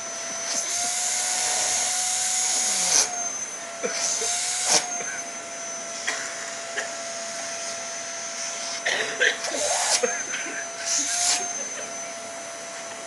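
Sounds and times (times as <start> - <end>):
vacuum cleaner motor whining: 0.0 - 13.0.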